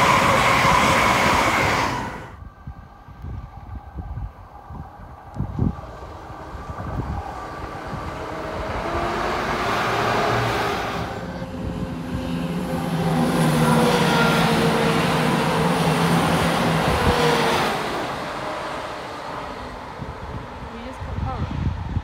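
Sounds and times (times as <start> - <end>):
train wheels rushing on rails: 0.0 - 2.4, 5.4 - 22.0
diesel engine drone: 3.2 - 21.4.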